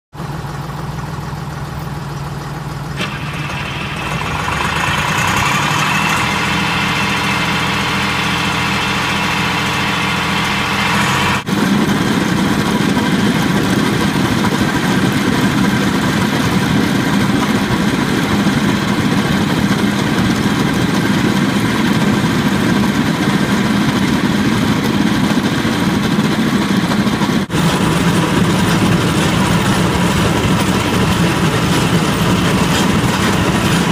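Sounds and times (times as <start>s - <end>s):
machine engine hum: 0.2s - 33.9s.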